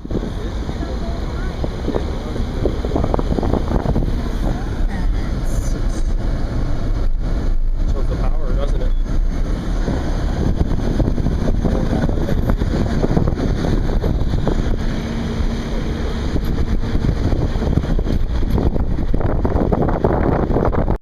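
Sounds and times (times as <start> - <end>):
car road and wind noise: 0.0 - 21.0
wind buffeting microphone: 0.0 - 21.0.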